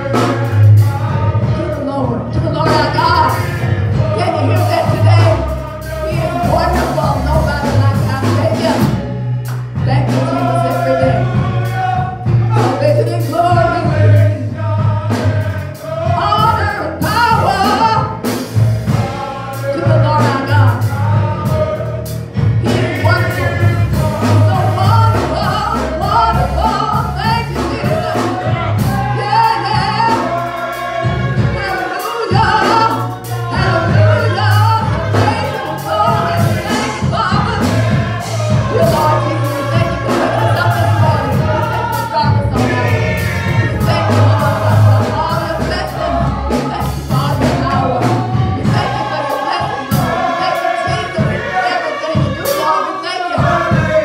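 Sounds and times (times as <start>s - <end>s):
low bass line: 0.0s - 51.4s
choir singing gospel: 0.0s - 54.0s
drum strokes: 0.0s - 54.0s.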